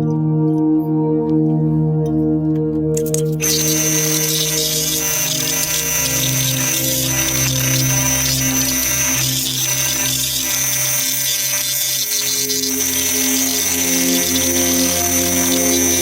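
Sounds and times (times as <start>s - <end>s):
background music: 0.0s - 16.0s
power tool running: 3.0s - 16.0s.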